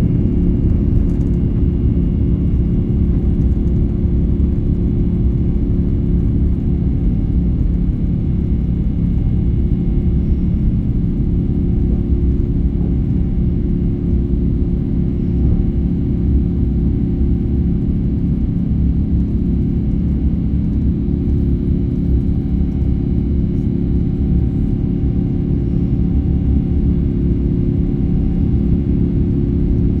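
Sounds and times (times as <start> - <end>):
jet engines low rumble: 0.0 - 30.0.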